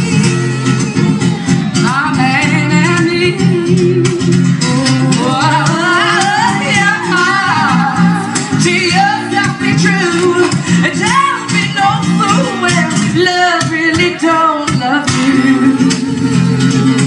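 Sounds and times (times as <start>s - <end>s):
strummed acoustic guitar: 0.0s - 17.0s
woman singing: 1.7s - 17.0s.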